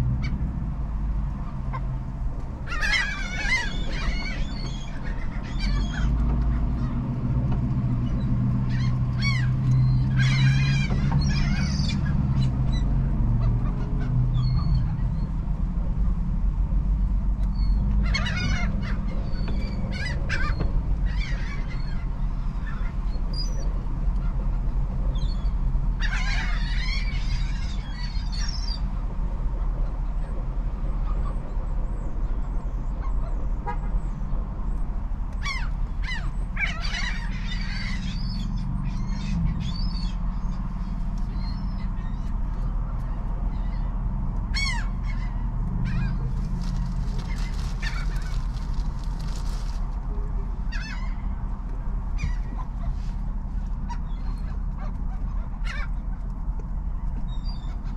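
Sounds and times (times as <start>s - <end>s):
steady low rumble: 0.0s - 57.9s
gulls calling: 1.3s - 15.7s, 17.4s - 57.9s.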